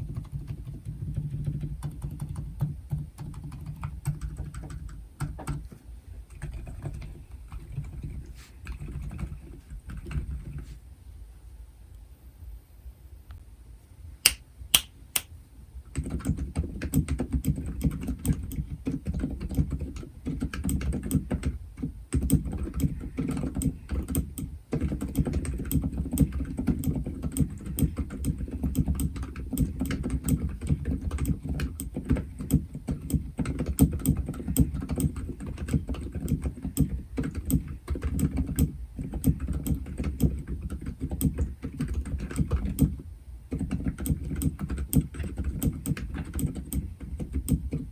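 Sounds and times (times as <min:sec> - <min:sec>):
typing on mechanical keyboard: 0:00.0 - 0:05.6, 0:06.3 - 0:10.6, 0:15.9 - 0:47.9.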